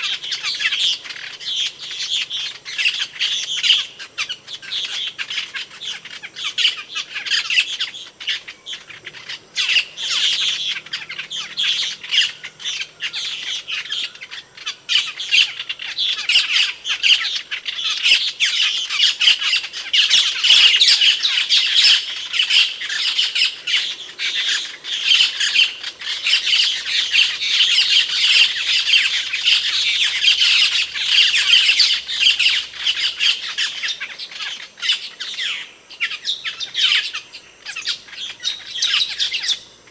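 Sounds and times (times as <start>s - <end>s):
starling squawking and chattering: 0.0s - 39.7s.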